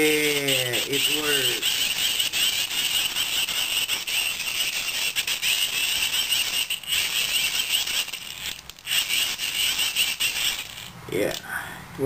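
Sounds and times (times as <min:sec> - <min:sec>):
hand-crank dynamo whirring: 0:00.2 - 0:11.5.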